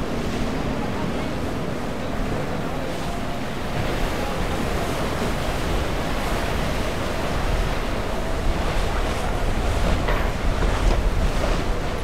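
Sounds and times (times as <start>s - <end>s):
waves breaking on rocks: 0.0s - 12.0s
wind on microphone: 0.0s - 12.0s.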